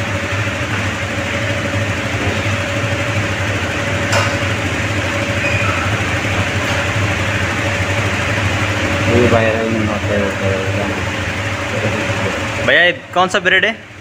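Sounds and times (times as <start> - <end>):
bread slicer humming: 0.0 - 12.8.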